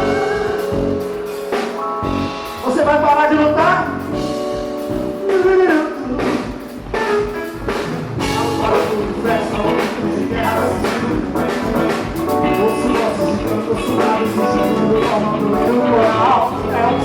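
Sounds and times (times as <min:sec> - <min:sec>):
band playing: 0:00.0 - 0:17.0
drum kit beat: 0:00.0 - 0:17.0.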